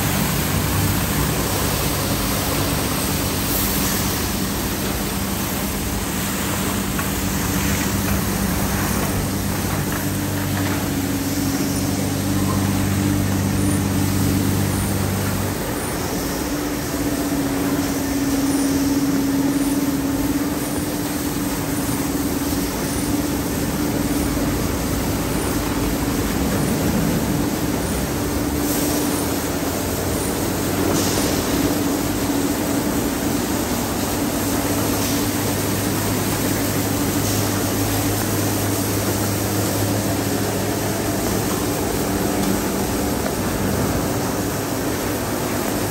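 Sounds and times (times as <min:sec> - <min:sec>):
water spray: 0:00.0 - 0:25.6, 0:26.4 - 0:45.9
motor and pump hum: 0:00.0 - 0:45.9.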